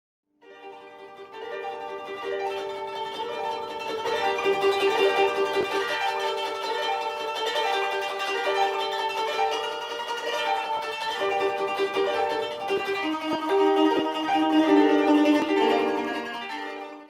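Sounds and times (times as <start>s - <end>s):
plucked string instrument music: 0.4s - 17.0s.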